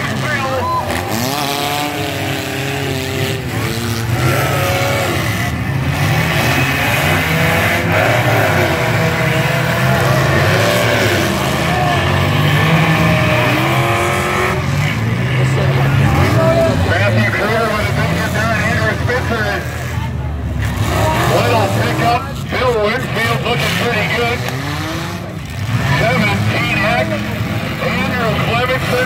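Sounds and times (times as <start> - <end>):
car engines revving: 0.0 - 29.0
spectators' voices: 0.0 - 29.0.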